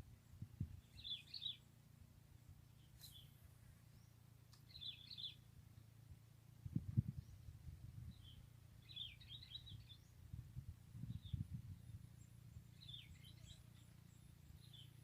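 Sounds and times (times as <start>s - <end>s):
low steady rumble: 0.0s - 15.0s
small birds chirping: 0.2s - 6.0s, 6.7s - 15.0s.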